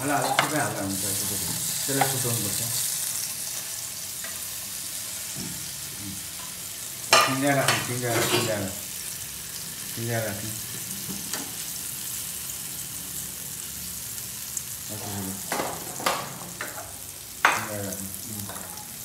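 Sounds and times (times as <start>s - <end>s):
cheese sizzling in oil: 0.0s - 19.0s.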